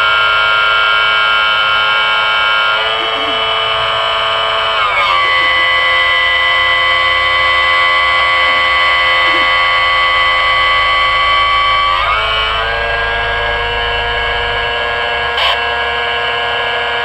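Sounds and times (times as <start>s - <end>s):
buzzy electronic tone: 0.0s - 17.0s
low hum: 0.0s - 17.0s.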